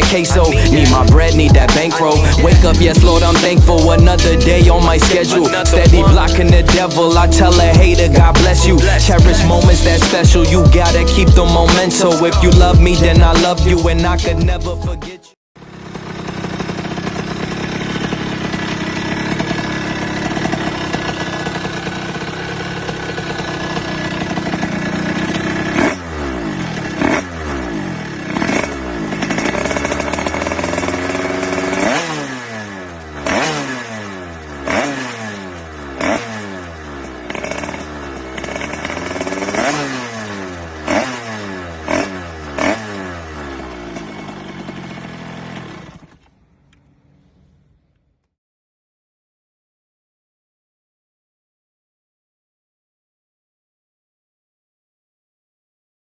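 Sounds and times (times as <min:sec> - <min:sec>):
motorcycle engine revving: 0:00.0 - 0:14.9, 0:15.6 - 0:48.3.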